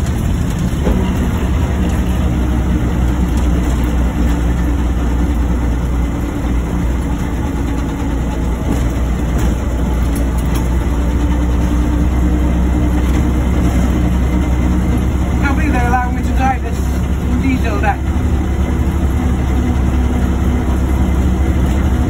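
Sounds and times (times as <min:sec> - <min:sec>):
diesel locomotive engine droning: 0:00.0 - 0:22.0.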